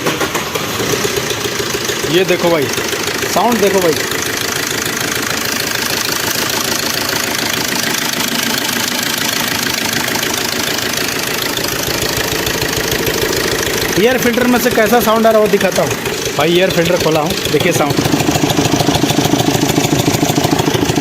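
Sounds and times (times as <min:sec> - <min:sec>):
diesel engine running: 0:00.0 - 0:21.0
rapid tapping clatter: 0:00.0 - 0:21.0.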